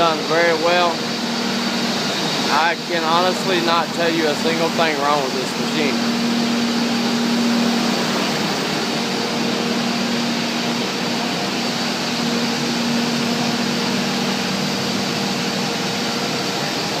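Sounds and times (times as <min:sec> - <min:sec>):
machinery whirring hiss: 0:00.0 - 0:17.0
low hum: 0:00.1 - 0:17.0.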